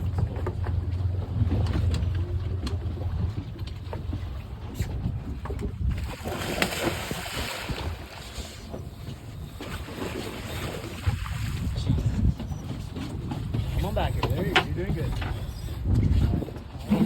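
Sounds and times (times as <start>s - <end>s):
water against boat hull: 0.0s - 17.0s
wind buffeting microphone: 0.0s - 17.0s.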